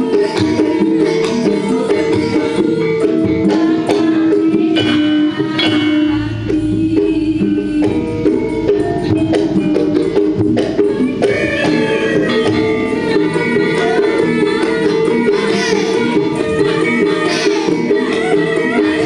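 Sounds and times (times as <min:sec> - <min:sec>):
gamelan ensemble playing: 0:00.0 - 0:19.0
hand drum beat: 0:00.0 - 0:19.0.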